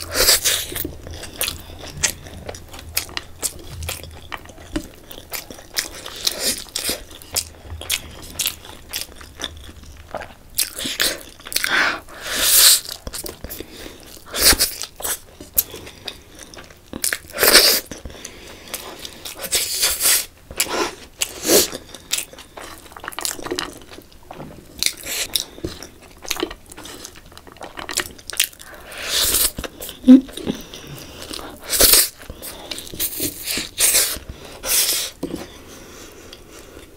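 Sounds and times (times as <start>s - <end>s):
person chewing: 0.0s - 36.9s.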